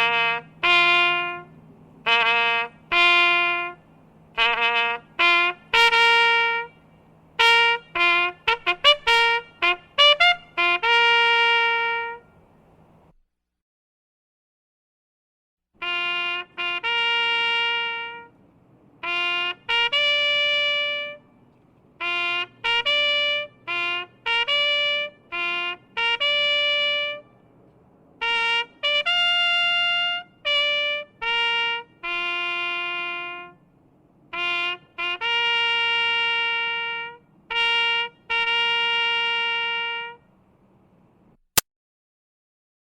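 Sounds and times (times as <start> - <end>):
solo trumpet fanfare: 0.0 - 12.5, 15.8 - 27.6, 28.2 - 40.4.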